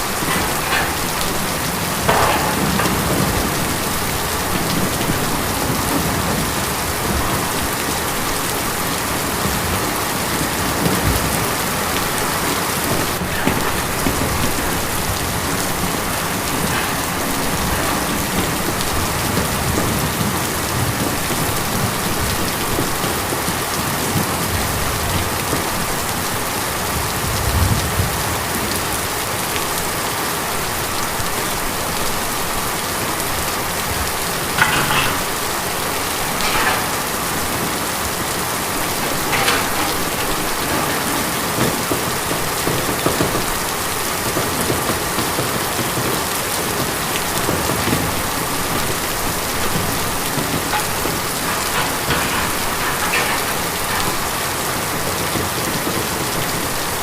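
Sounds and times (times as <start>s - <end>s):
rain drumming on a tin roof: 0.0s - 57.0s.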